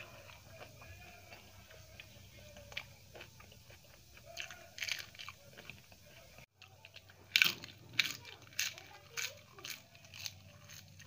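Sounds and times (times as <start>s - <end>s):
loud crisp crunch: 0.0s - 11.0s
quiet chewing: 0.0s - 11.0s.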